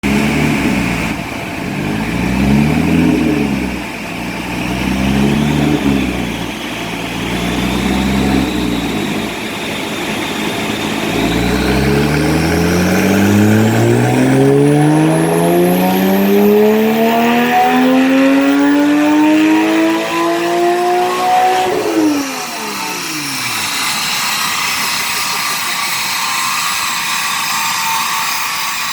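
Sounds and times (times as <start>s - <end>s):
car engine revving: 0.0s - 25.4s.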